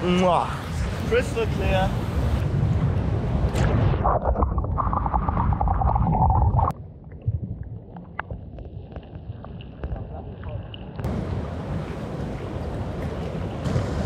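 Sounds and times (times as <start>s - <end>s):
water churning and bubbling: 2.0s - 14.0s.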